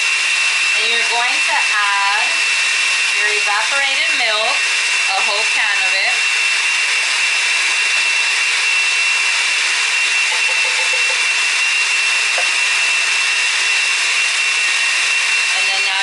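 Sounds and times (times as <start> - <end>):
blender motor whirring: 0.0 - 16.0.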